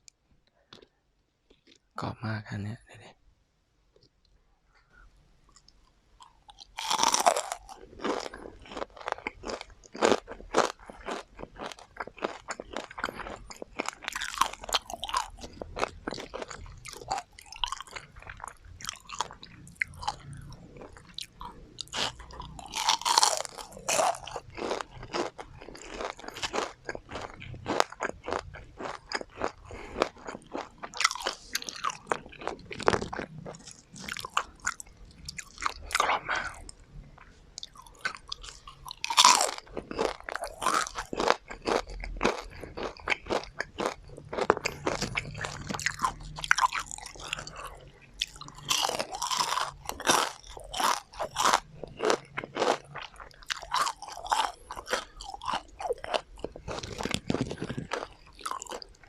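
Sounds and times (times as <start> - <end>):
crunchy chewing: 5.5 - 59.0.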